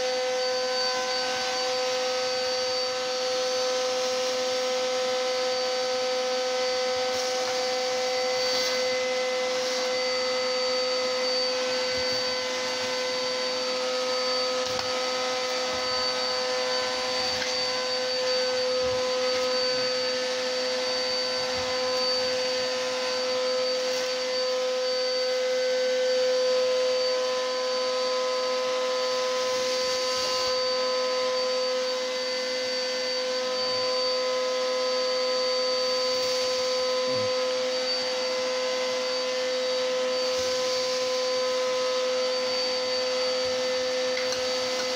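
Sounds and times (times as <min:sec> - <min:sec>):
vacuum cleaner whining: 0:00.0 - 0:44.9.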